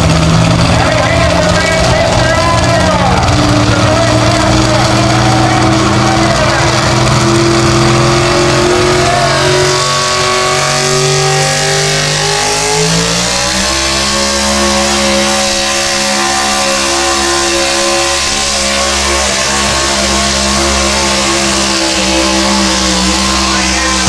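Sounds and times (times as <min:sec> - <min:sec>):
vehicle engine under load: 0:00.0 - 0:24.0.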